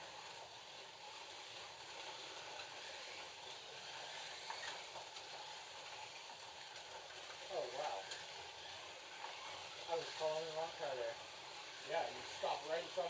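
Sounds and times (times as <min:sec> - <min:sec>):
slot cars whirring on track: 0:00.0 - 0:13.0.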